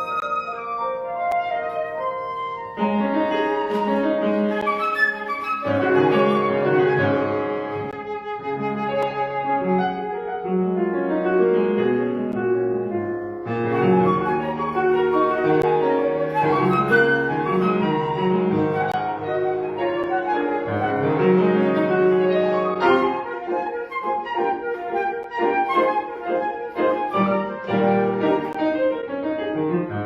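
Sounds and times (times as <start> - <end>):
flute melody: 0.0 - 11.2, 11.8 - 30.0
piano chords: 0.0 - 30.0.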